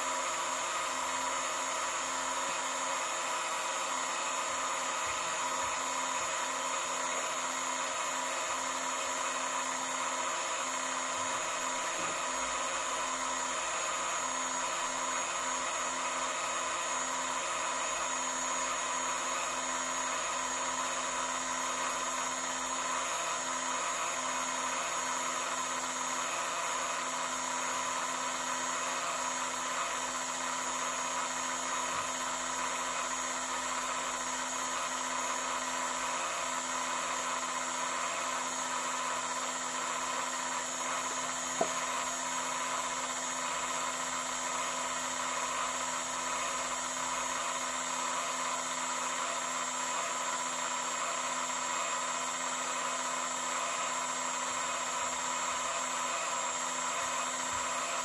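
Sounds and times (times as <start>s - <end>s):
electric motor whirring hum: 0.0s - 58.0s.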